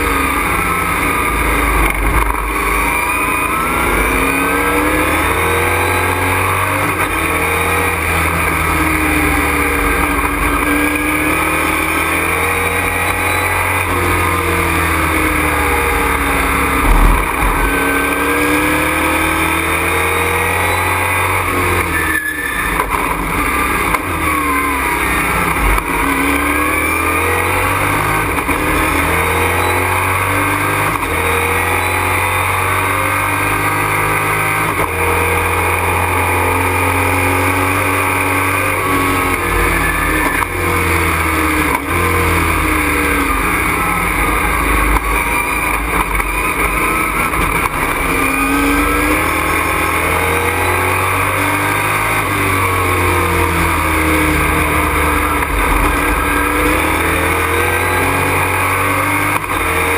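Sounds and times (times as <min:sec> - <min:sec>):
race truck engine revving: 0:00.0 - 0:59.9.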